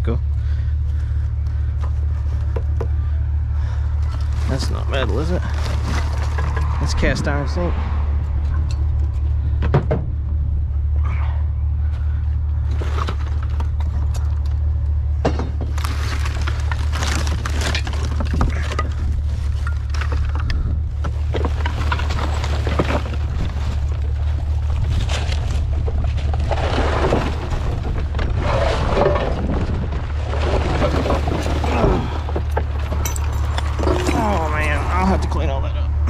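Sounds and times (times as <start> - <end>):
vehicle engine idling: 0.0 - 36.0
knocks and clatter: 4.0 - 11.2, 12.0 - 34.7.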